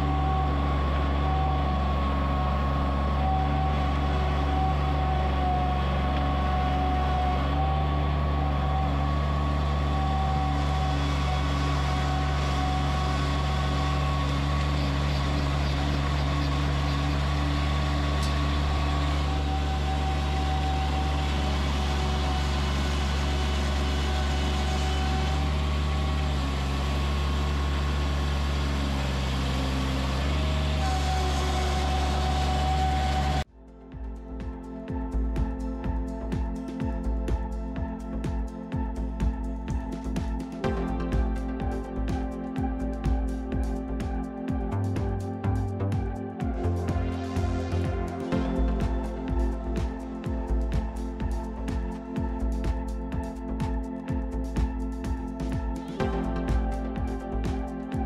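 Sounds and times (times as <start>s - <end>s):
engine running: 0.0s - 58.0s
steady whine: 0.0s - 58.0s.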